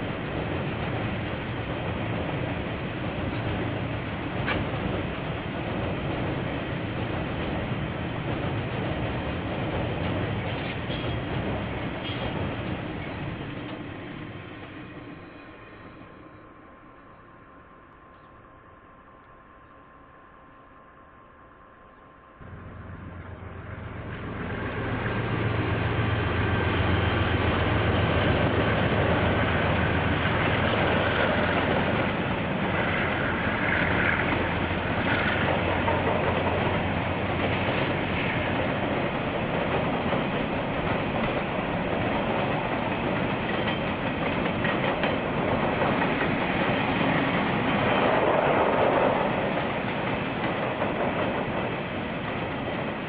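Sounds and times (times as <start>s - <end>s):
train wagons clattering: 0.0s - 15.2s, 23.1s - 53.0s
locomotive engine hum: 0.0s - 53.0s.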